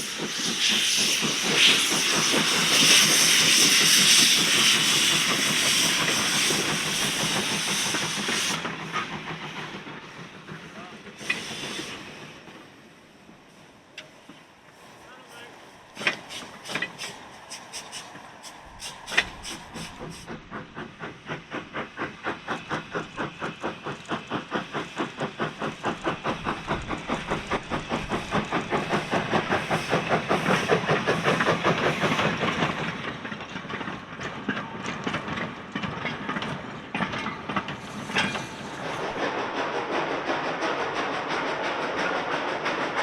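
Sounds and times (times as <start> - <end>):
steam locomotive chuffing: 0.0 - 43.0.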